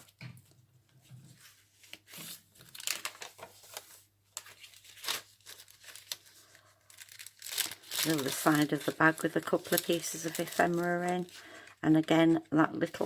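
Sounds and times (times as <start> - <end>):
paper pages rustling: 0.0 - 11.8.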